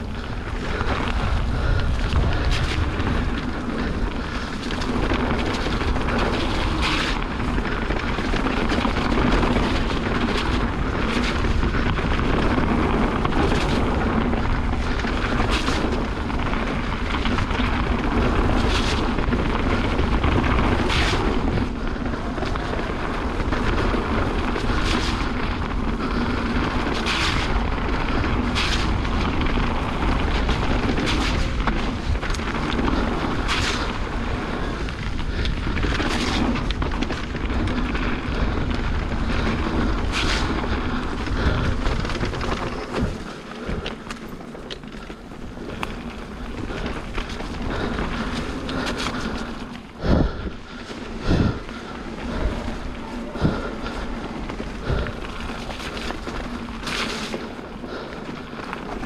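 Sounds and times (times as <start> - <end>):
bike rattling over bumps: 0.0 - 59.0
tyres rolling over dirt trail: 0.0 - 59.0
wind buffeting microphone: 0.0 - 59.0.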